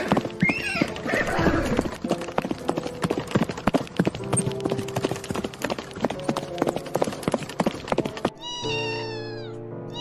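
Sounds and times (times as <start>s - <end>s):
horse hoofbeats galloping: 0.0s - 8.6s.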